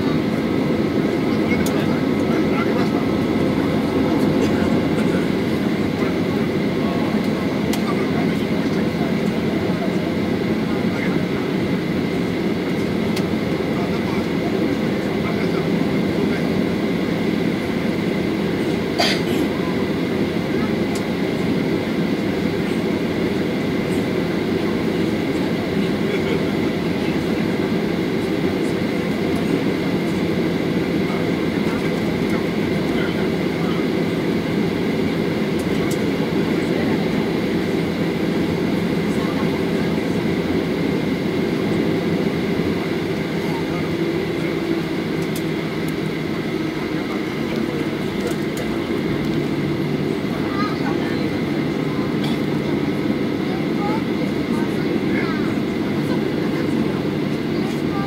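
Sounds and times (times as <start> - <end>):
aircraft engines humming: 0.0 - 58.0
airliner cabin drone: 0.0 - 58.0.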